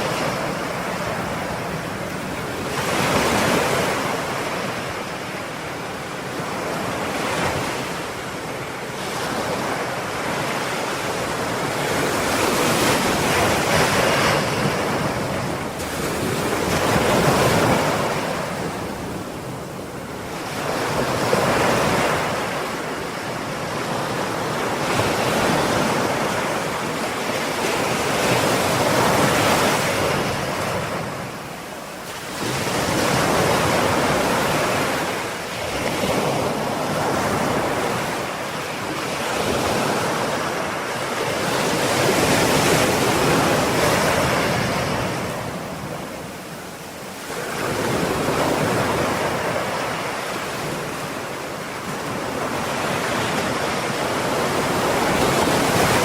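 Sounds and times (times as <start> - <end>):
ocean waves breaking on shore: 0.0 - 56.0
wind on microphone: 0.0 - 56.0.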